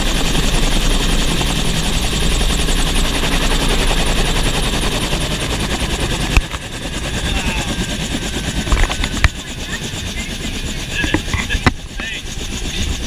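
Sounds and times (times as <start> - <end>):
helicopter rotor and turbine: 0.0 - 13.0.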